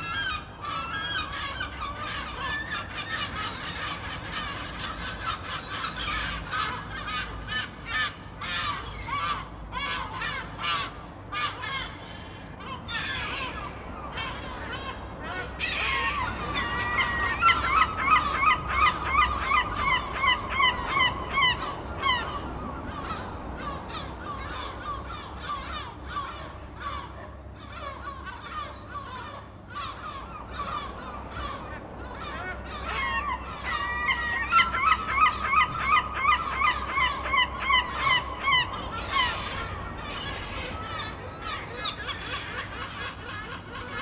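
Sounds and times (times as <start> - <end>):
gulls squawking: 0.0 - 44.0.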